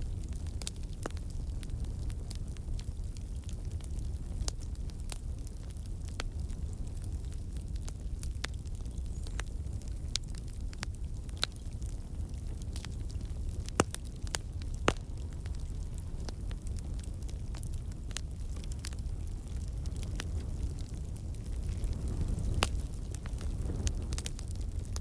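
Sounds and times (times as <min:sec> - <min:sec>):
campfire logs crackling and popping: 0:00.0 - 0:25.0
low rumble of flames: 0:00.0 - 0:25.0.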